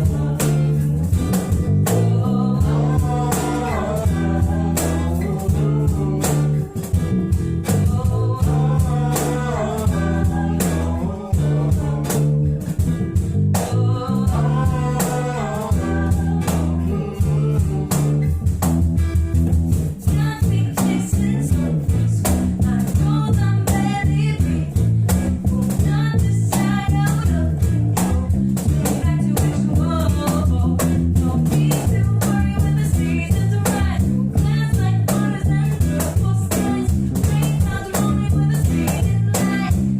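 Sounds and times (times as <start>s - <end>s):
person singing: 0.0s - 12.4s, 13.6s - 18.6s, 20.0s - 39.9s
strummed acoustic guitar: 0.0s - 39.9s.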